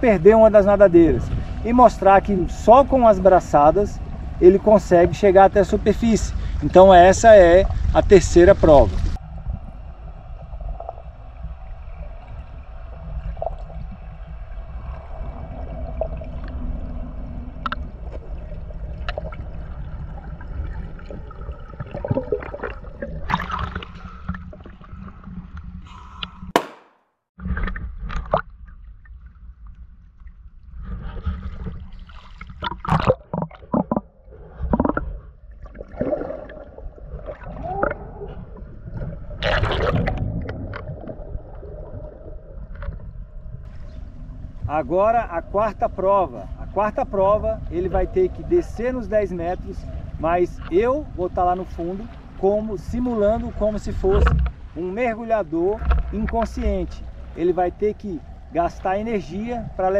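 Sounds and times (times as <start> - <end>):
underwater rumble: 0.0 - 26.6, 27.4 - 59.9
water splashing and sloshing: 0.0 - 59.9.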